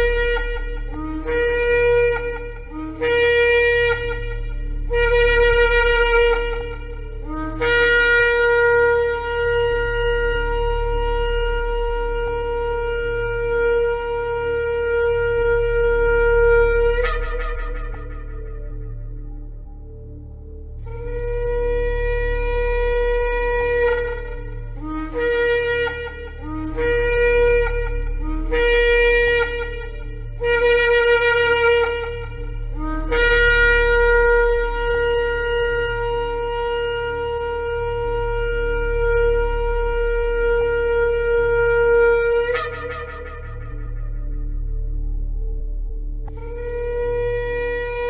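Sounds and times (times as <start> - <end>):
shofar blasts: 0.0 - 48.0
steady low hum: 0.0 - 48.0.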